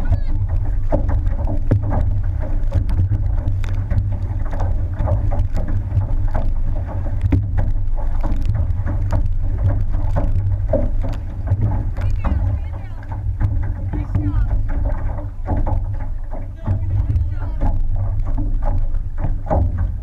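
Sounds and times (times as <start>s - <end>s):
hull rushing through water: 0.0s - 20.0s
paddles splashing into water: 0.0s - 20.0s
wind rumble on microphone: 0.0s - 20.0s.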